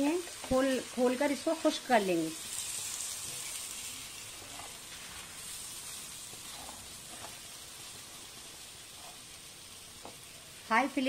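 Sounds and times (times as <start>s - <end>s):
meatballs sizzling in oil: 0.0s - 11.0s.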